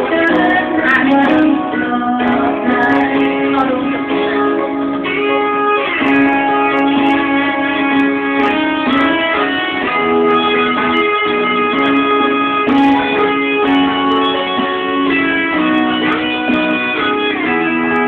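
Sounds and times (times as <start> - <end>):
karaoke backing track: 0.0 - 18.0.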